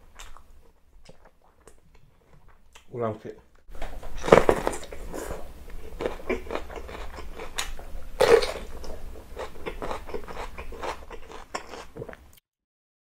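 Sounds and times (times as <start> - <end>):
chewing: 0.1 - 2.9, 4.2 - 12.4.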